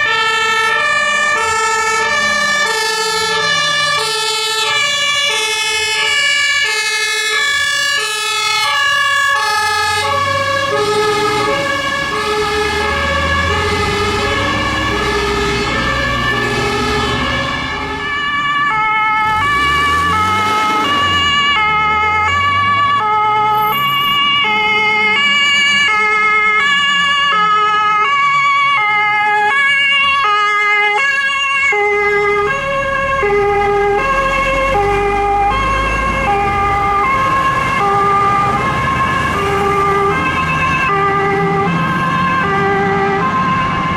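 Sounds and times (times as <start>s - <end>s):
truck engines running: 0.0s - 43.9s
two-tone fire engine sirens: 0.0s - 43.9s.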